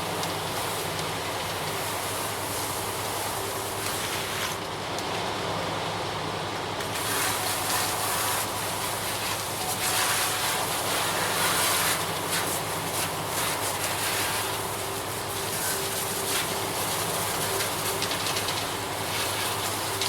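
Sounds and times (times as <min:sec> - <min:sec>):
concrete truck engine running: 0:00.0 - 0:20.0.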